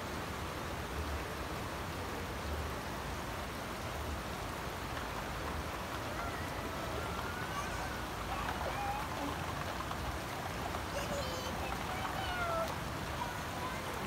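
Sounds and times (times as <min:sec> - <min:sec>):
rain falling on ground and plants: 0:00.0 - 0:14.0.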